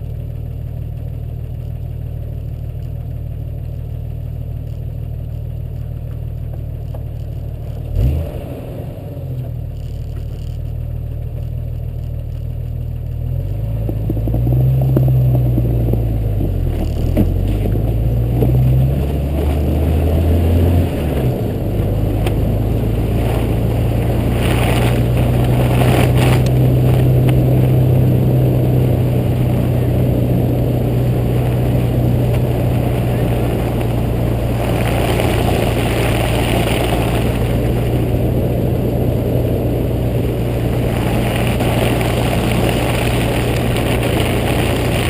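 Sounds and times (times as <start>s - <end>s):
car engine running: 0.0s - 45.0s
tyre and road noise: 0.0s - 45.0s.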